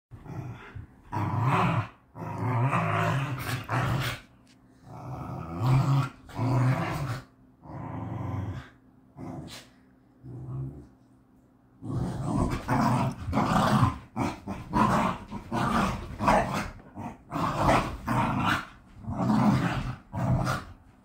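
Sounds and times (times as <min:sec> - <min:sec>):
dogs play-growling: 0:00.2 - 0:11.1, 0:11.8 - 0:21.0.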